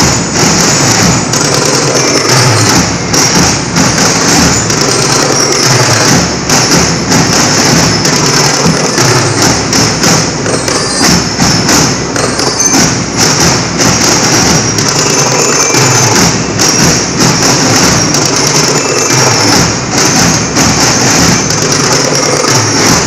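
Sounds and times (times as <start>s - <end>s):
marching snare drums: 0.0s - 23.0s.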